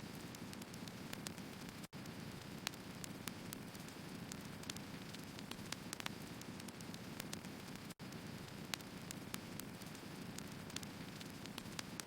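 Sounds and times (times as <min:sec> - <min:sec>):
firewood crackling: 0:00.0 - 0:12.0.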